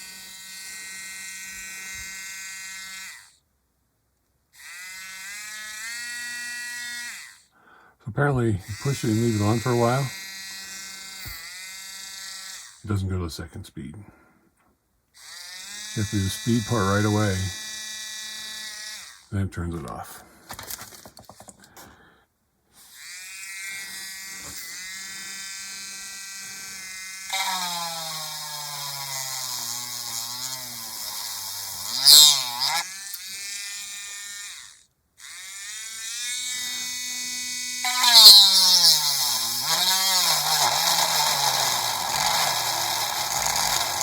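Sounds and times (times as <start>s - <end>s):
electric drill boring into plastic: 0.0s - 3.4s, 4.6s - 7.5s, 8.7s - 12.8s, 15.2s - 19.3s, 22.8s - 44.0s.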